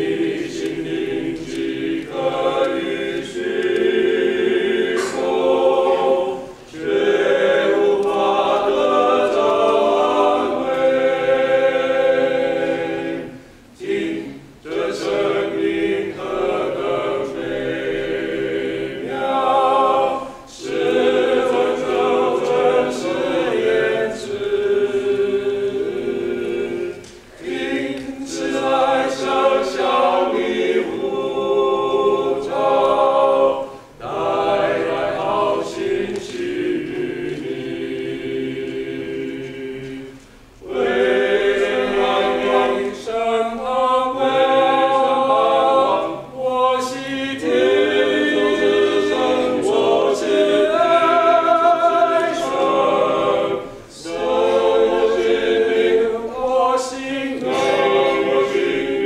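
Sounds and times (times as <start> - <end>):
men singing a cappella: 0.0 - 59.0.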